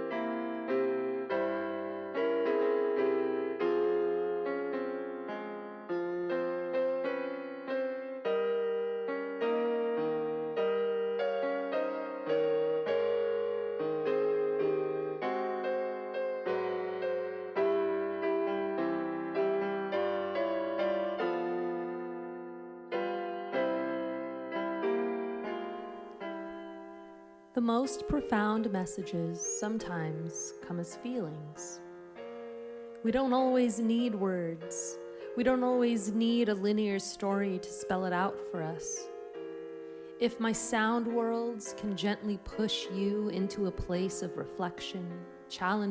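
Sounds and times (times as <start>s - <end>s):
slow piano chords: 0.0s - 45.9s.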